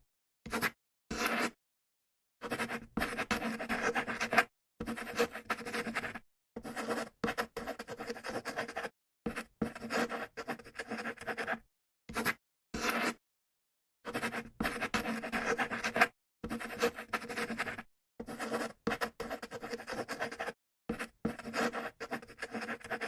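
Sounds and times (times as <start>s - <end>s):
writing scratching on paper: 0.5s - 1.6s, 2.4s - 13.2s, 14.1s - 23.0s.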